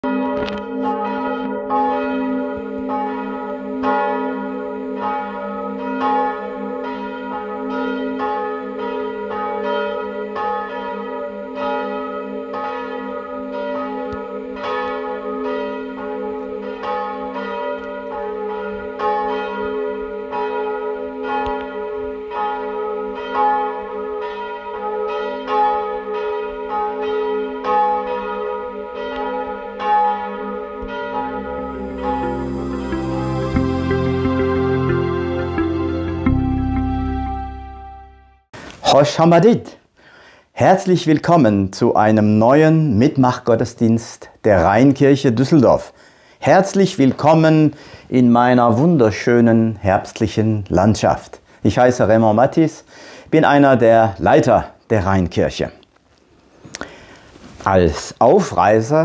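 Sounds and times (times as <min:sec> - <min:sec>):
church bells pealing: 0:00.0 - 0:38.3, 0:40.7 - 0:45.9, 0:46.5 - 0:55.6.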